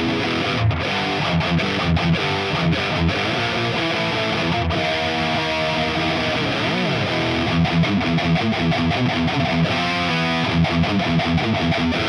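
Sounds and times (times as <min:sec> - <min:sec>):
electric guitar: 0:00.0 - 0:12.0.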